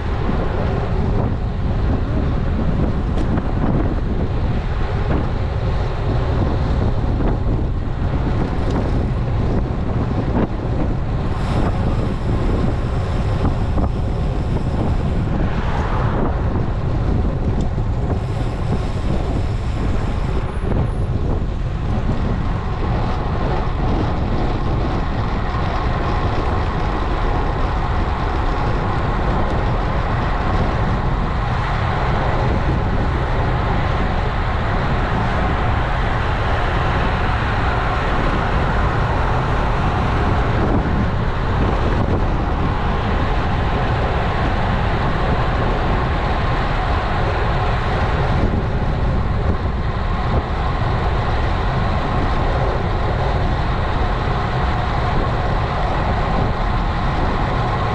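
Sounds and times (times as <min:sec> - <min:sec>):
bike tyre noise: 0:00.0 - 0:57.9
wind rushing over microphone: 0:00.0 - 0:57.9.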